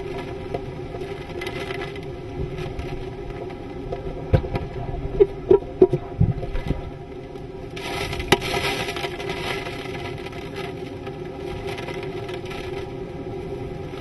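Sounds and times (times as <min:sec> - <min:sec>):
rain spattering on windshield: 0:00.0 - 0:14.0
wind buffeting vehicle: 0:00.0 - 0:14.0.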